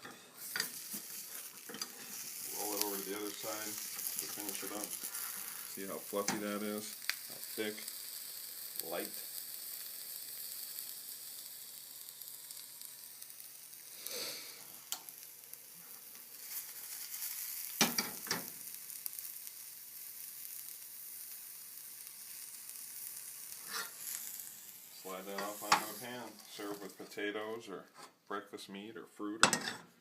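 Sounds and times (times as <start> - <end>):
omelette sizzling in a skillet: 0.0 - 27.2.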